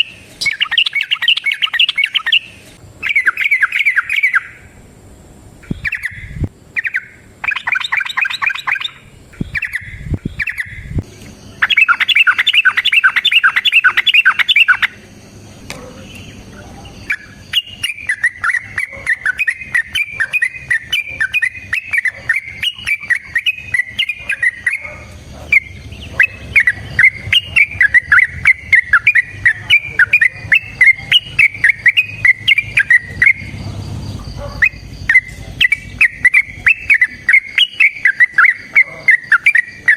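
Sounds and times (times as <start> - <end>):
bird rapid note run: 0.0 - 4.7, 5.6 - 15.4, 16.3 - 39.9
bulbul chattering song: 0.0 - 39.9.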